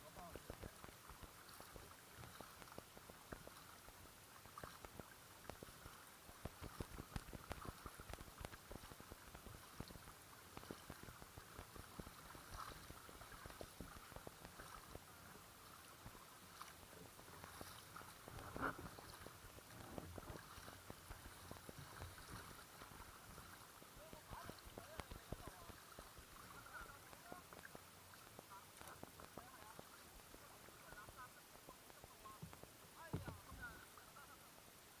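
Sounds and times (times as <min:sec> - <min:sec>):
low hiss: 0:00.0 - 0:35.0
water lapping against kayak: 0:00.0 - 0:35.0.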